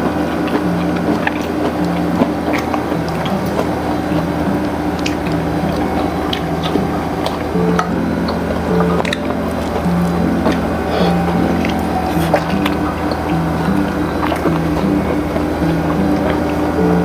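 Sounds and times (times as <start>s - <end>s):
crunchy chewing of fried chicken: 0.0s - 17.0s
music with held low notes: 0.0s - 17.0s.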